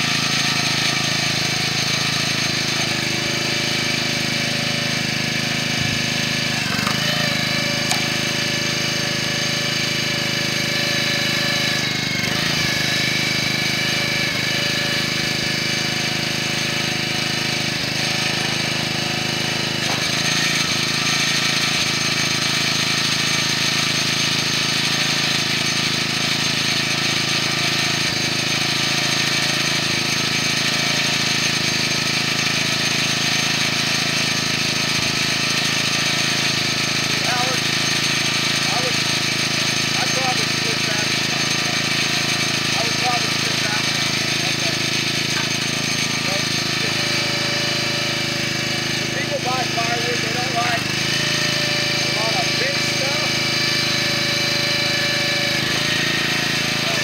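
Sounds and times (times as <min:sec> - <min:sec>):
small gasoline engine running: 0:00.0 - 0:57.0.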